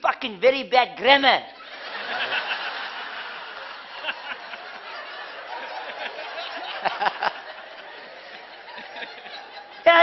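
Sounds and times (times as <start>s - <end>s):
audience laughing: 1.6s - 10.0s.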